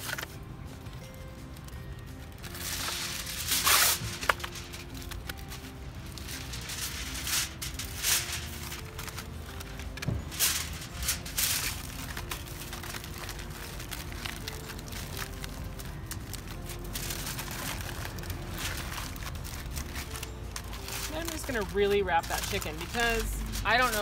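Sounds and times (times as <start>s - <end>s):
aluminium foil crinkling: 0.0s - 24.0s.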